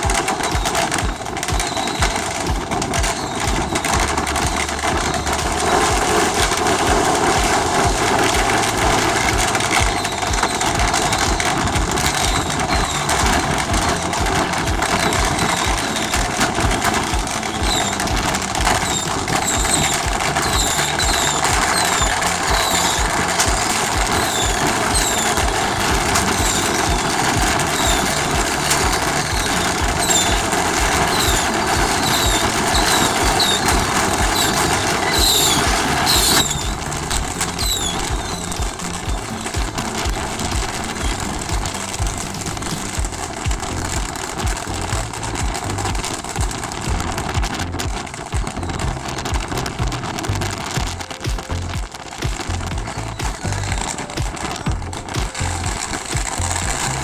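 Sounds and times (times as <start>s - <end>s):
boat engine pulsing: 0.0s - 57.0s.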